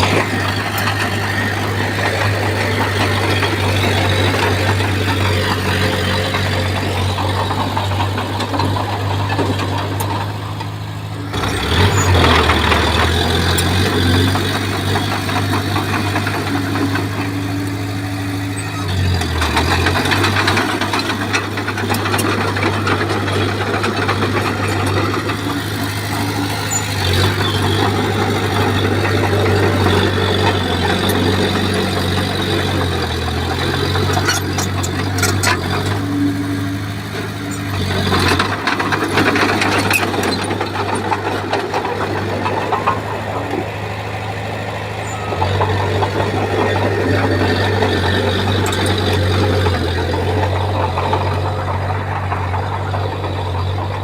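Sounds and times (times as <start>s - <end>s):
bulldozer diesel engine running: 0.0s - 54.0s
engine rattle: 0.0s - 54.0s.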